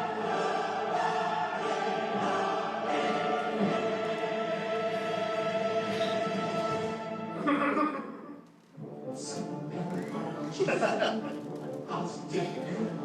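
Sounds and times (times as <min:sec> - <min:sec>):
choir singing sustained chords: 0:00.0 - 0:13.0.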